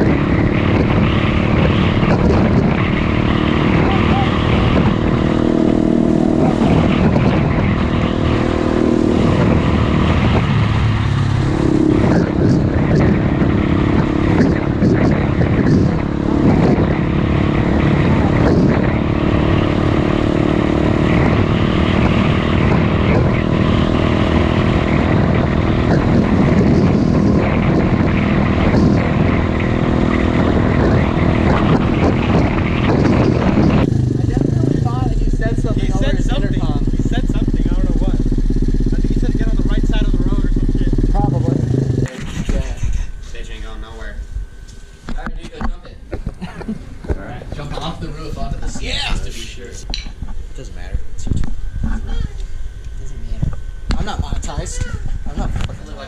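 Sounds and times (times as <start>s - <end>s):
small motorbike engine running: 0.0s - 56.0s.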